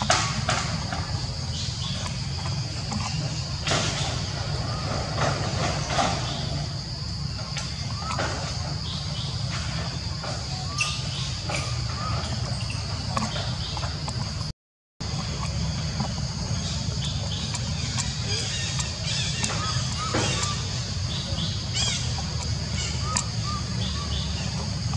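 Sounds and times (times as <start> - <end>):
insect drone: 0.0 - 24.9
low constant rumble: 0.0 - 24.9.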